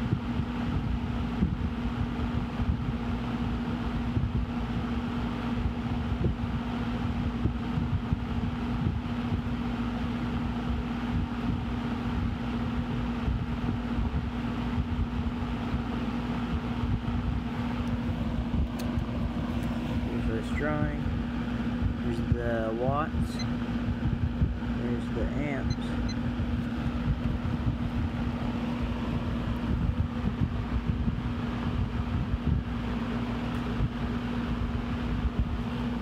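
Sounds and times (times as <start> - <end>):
box fan running: 0.0 - 36.0.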